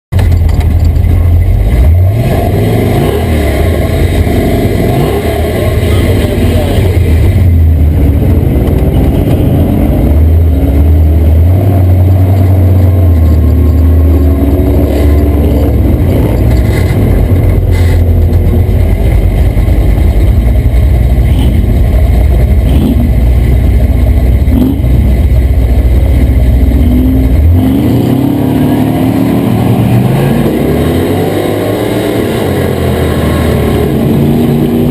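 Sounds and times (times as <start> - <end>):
truck engine revving: 0.2 - 34.9.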